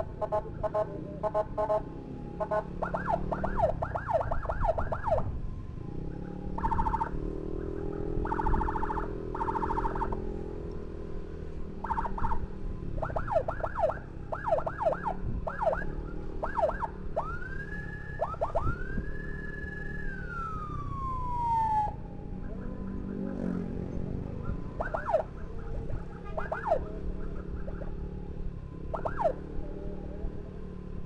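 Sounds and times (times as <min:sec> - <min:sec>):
emergency siren yelping: 0:00.0 - 0:10.7, 0:11.5 - 0:31.0
motorcycle engine: 0:00.0 - 0:31.0
traffic noise: 0:00.0 - 0:31.0.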